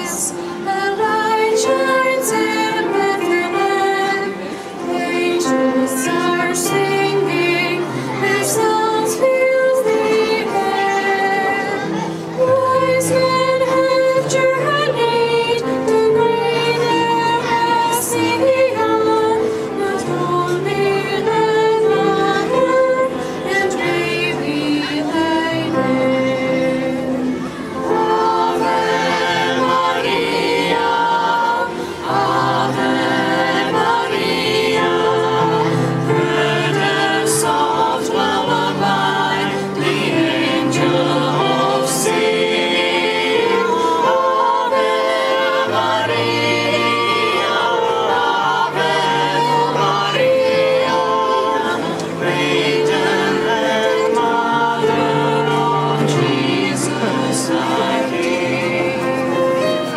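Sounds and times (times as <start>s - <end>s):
children's choir singing in harmony: 0.0s - 59.9s.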